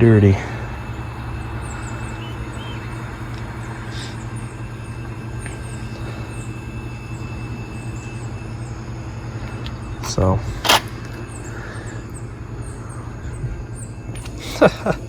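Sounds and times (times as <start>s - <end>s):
faint high chirps: 0.0s - 15.0s
low mechanical hum: 0.0s - 15.0s.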